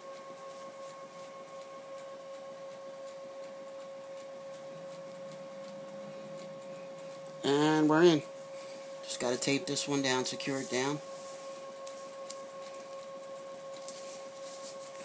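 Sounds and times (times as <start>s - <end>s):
faint irregular ticks: 0.0s - 15.0s
steady mid-pitched hum: 0.0s - 15.0s.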